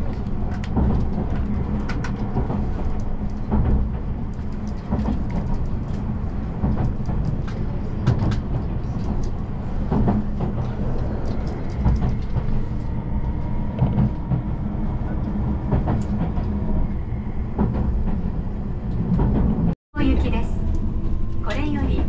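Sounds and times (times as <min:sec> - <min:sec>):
train cabin rumble: 0:00.0 - 0:22.0.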